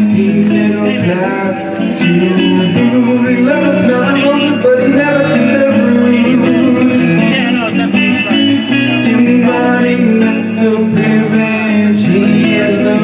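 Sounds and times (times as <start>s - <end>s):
live band with guitar: 0.0s - 13.0s.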